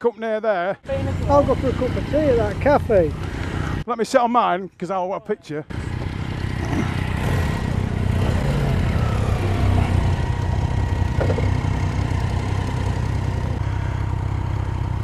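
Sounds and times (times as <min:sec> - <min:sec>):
motorcycle engine idling: 0:00.8 - 0:03.8, 0:05.7 - 0:15.0.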